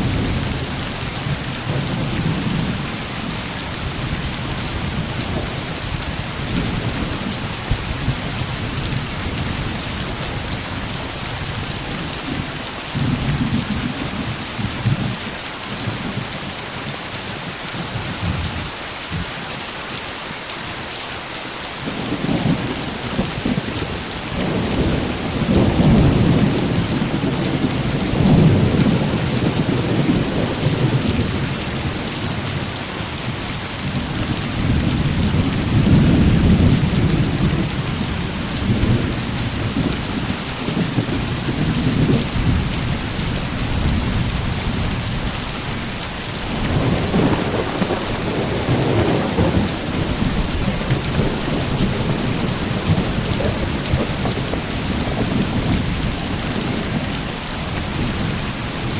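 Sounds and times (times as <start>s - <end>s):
low rolling thunder: 0.0s - 15.2s, 21.8s - 32.8s, 33.8s - 58.9s
heavy rain falling: 0.0s - 58.9s.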